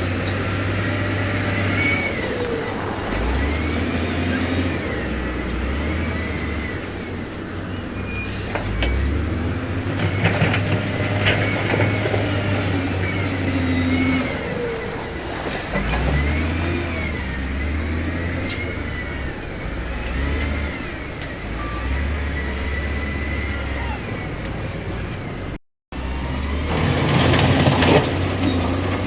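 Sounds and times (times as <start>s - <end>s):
diesel machinery engine: 0.0s - 29.0s.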